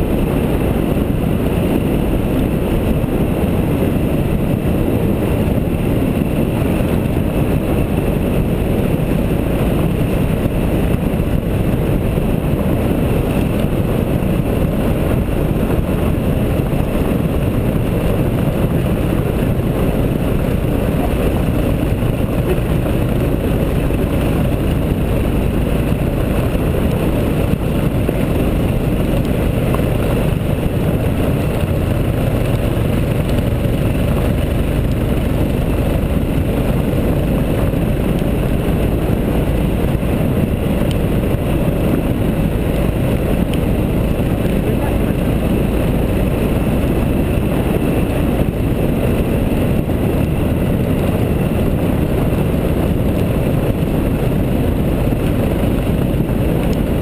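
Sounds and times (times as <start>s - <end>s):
motorcycle engine: 0.0s - 57.0s
wind: 0.0s - 57.0s.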